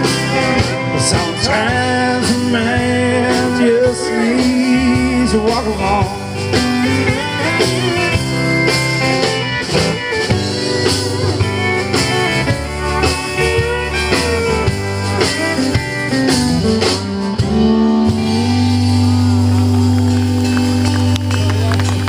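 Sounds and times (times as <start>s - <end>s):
drum kit beat: 0.0s - 22.0s
guitars: 0.0s - 22.0s.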